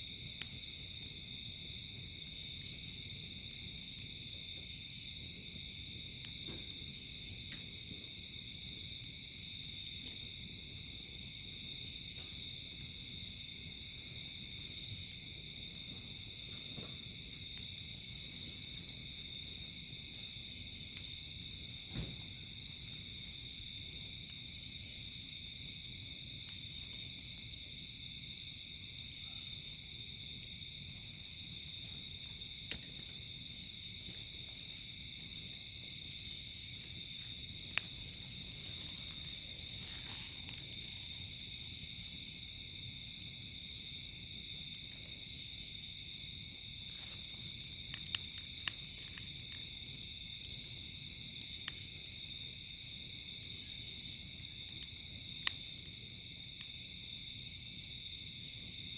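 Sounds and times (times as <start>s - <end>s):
campfire crackling pops: 0.0s - 58.9s
night insects chorus: 0.0s - 58.9s.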